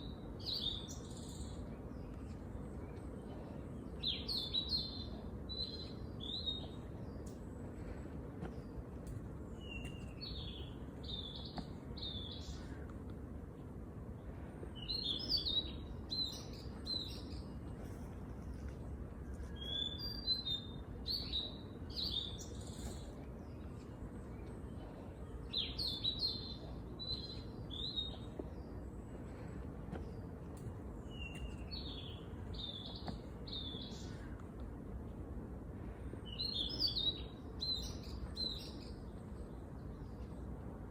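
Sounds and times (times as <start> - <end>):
small songbirds chirping: 0.0 - 40.9
steady low background noise: 0.0 - 40.9.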